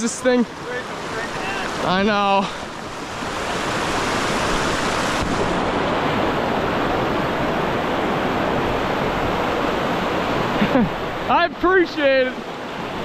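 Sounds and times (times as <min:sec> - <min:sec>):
river current rushing: 0:00.0 - 0:13.0.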